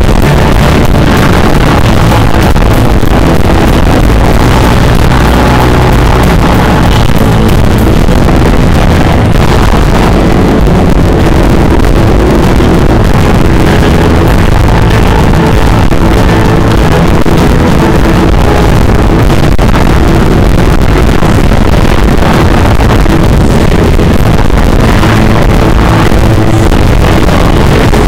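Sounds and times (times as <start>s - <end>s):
distorted loud rock band: 0.0s - 28.0s.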